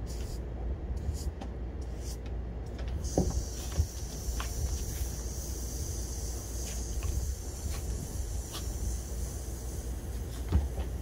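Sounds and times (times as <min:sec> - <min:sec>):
steady high hiss: 0:01.0 - 0:11.0.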